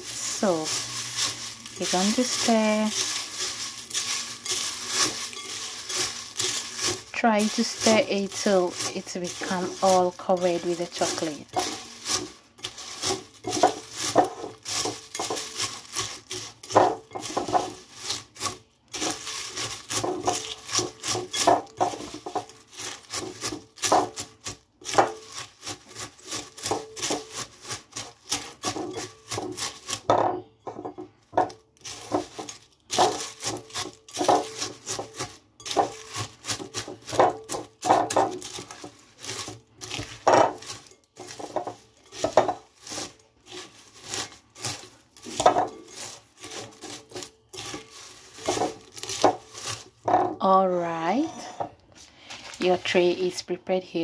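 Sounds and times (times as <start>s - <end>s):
spatula stirring cereal in glass bowl: 0.0s - 51.6s.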